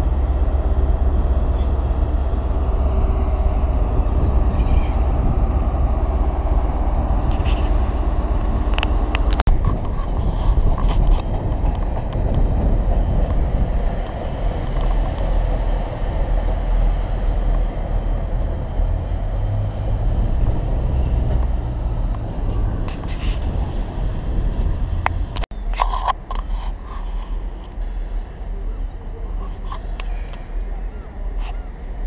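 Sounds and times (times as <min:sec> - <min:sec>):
diesel train engine rumbling: 0:00.0 - 0:32.0.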